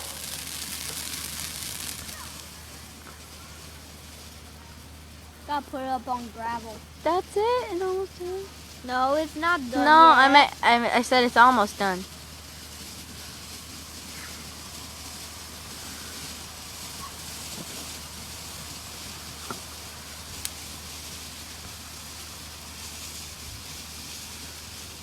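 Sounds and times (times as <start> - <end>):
outdoor background hiss: 0.0 - 25.0.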